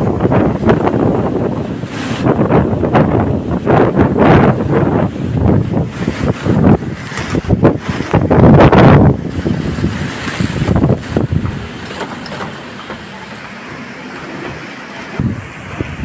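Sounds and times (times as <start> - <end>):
storm wind gusting on microphone: 0.0 - 16.0.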